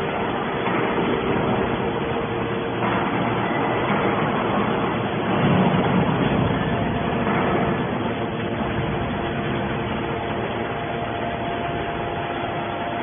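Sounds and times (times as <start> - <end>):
hydraulic machine whirring: 0.0 - 13.0.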